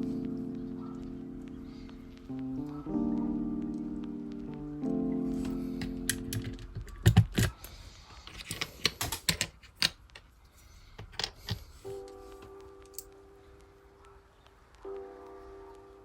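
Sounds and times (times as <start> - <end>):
background music: 0.0 - 16.0
keyboard keys clacking: 0.0 - 16.0.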